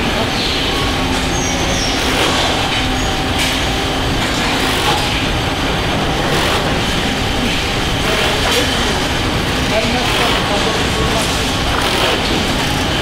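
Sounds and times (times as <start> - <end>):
conveyor and factory machinery running: 0.0 - 13.0.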